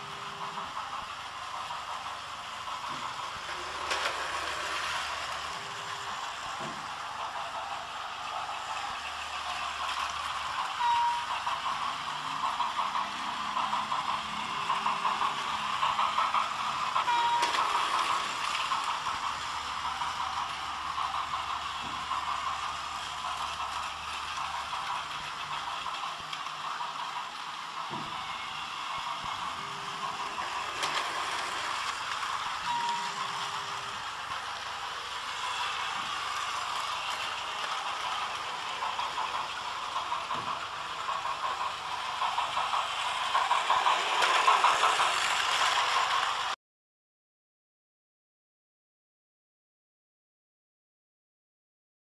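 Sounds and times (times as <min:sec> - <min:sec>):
toy train motors whirring: 0:00.0 - 0:46.6
wheels rattling on plastic track: 0:00.0 - 0:46.6.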